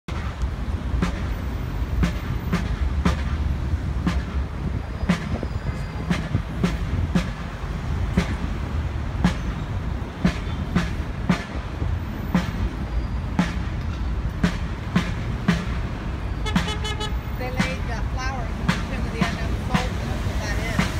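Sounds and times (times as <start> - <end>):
traffic rumble: 0.0 - 20.9
marching band drums: 0.1 - 20.9.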